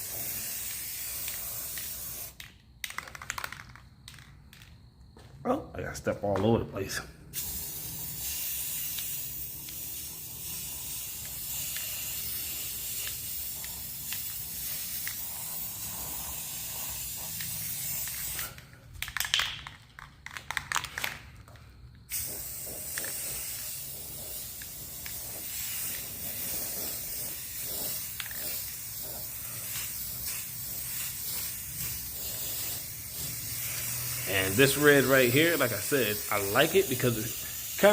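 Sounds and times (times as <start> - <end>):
spray paint can hissing: 0.0 - 4.7, 7.3 - 21.1, 22.1 - 37.9.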